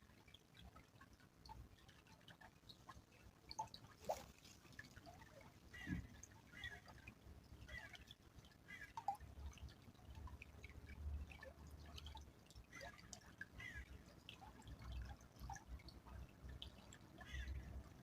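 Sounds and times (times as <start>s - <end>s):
stream water dripping: 0.0s - 18.0s.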